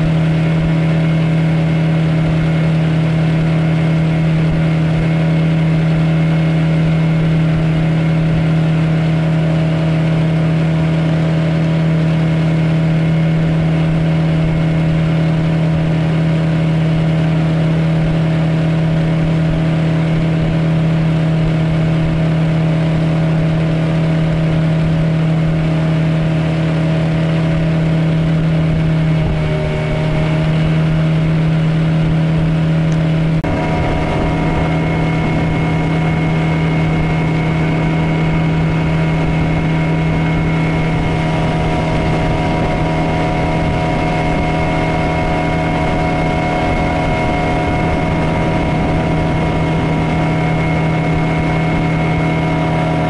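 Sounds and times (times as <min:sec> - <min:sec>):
outboard motor running: 0:00.0 - 0:53.0.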